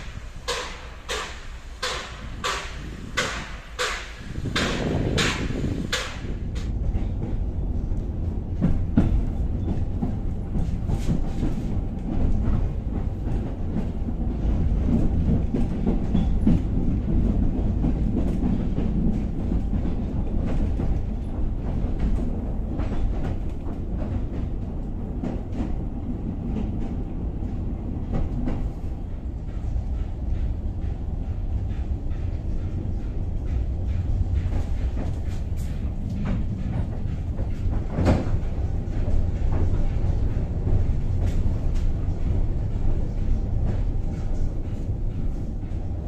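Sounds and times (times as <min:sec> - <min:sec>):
train running gear rumble: 0:00.0 - 0:46.0.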